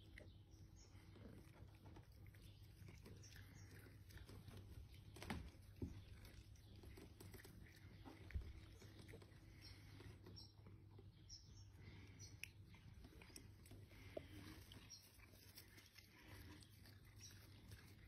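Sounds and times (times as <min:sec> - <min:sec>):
cats chewing grass: 0:00.0 - 0:18.0.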